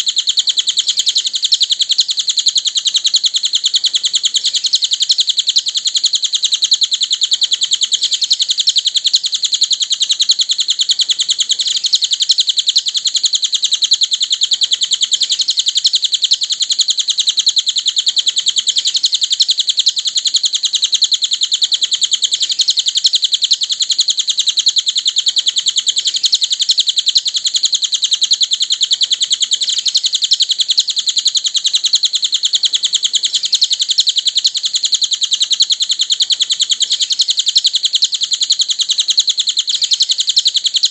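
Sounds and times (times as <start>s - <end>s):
bird twittering song: 0.0s - 40.9s.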